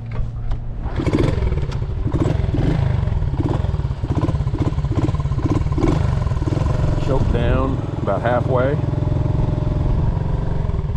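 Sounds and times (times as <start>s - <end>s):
small motorcycle engine running: 0.8s - 10.9s.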